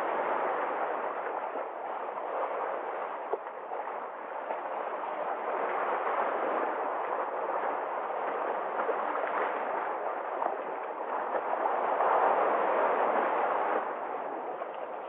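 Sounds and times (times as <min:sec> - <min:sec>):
sea waves on shore: 0:00.0 - 0:15.0.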